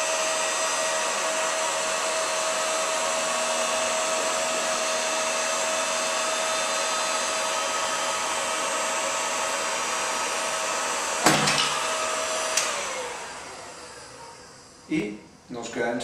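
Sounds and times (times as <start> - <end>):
hot-air blower rushing with whine: 0.0 - 16.0.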